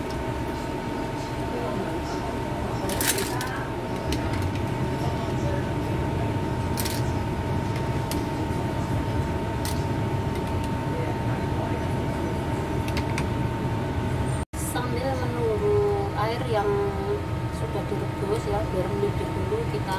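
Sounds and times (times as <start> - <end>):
low hum: 0.0 - 19.9
thin steady whine: 0.0 - 19.9.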